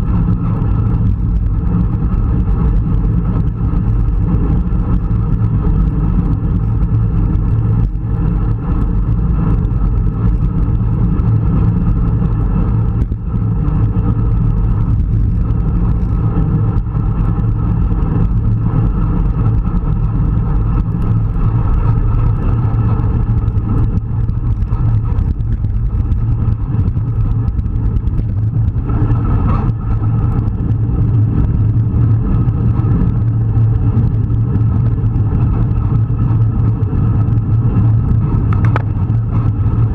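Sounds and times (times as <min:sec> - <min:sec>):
road and tyre noise: 0:00.0 - 0:39.9
wind rumble on microphone: 0:00.0 - 0:39.9.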